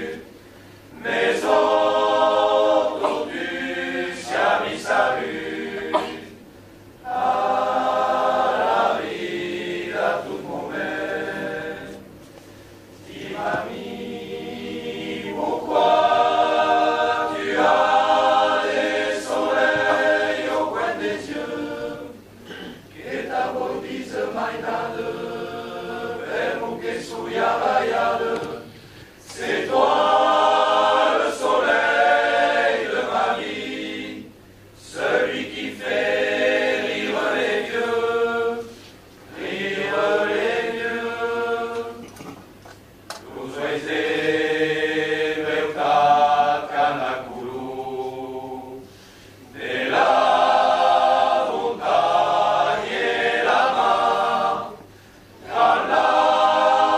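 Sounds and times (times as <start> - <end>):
men's choir singing a cappella: 0.0 - 12.2, 13.0 - 42.5, 43.2 - 56.9.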